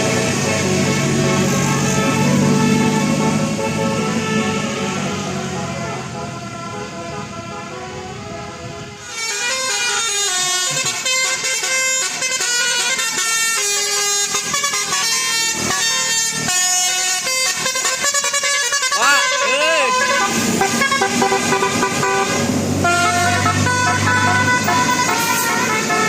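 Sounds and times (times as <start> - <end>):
multi-tone air horn tune: 0.1 - 26.0.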